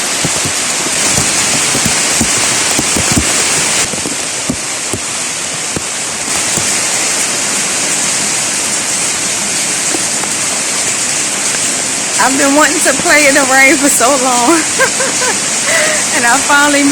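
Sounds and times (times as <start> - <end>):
heavy rain pouring: 0.0 - 16.9
raindrops splashing close by: 0.0 - 16.9.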